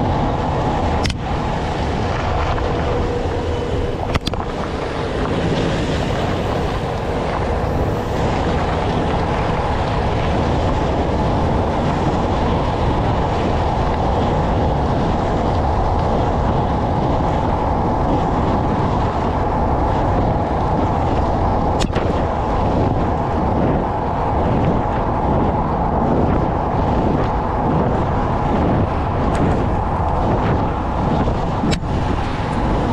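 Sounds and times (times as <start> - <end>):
tyre and road rumble: 0.0 - 32.9
wind buffeting microphone: 0.0 - 32.9.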